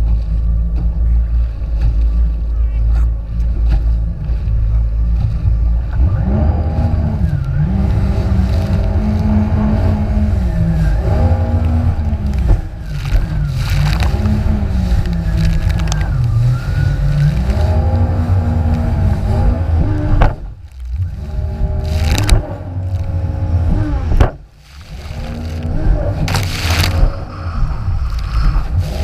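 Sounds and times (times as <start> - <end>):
jet ski engine revving: 2.8 - 29.0.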